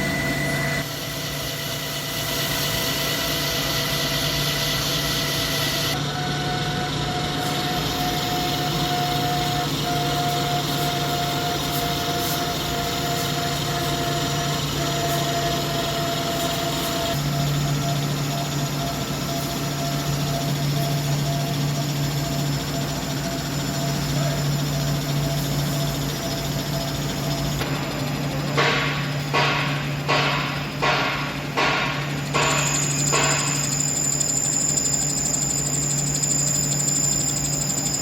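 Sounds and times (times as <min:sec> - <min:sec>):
lathe whining and humming: 0:00.0 - 0:38.0.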